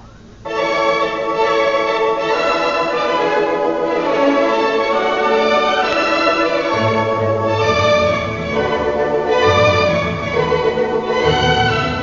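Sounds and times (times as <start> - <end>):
orchestral strings holding chords: 0.4 - 12.0.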